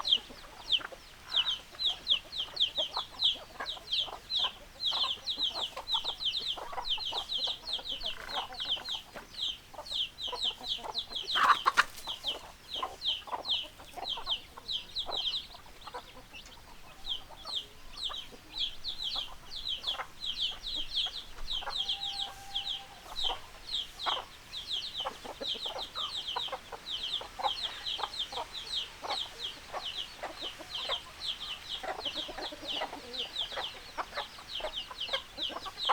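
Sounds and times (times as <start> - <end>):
hens clucking: 0.0 - 35.9
high-pitched peeping: 0.5 - 35.9.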